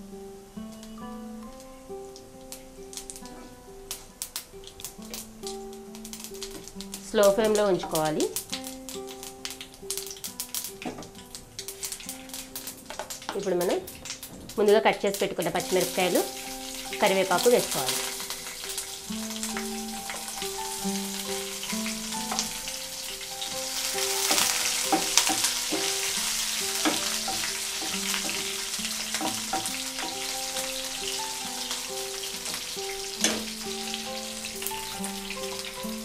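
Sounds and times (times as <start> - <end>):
chillies sizzling in oil: 0.0 - 36.0.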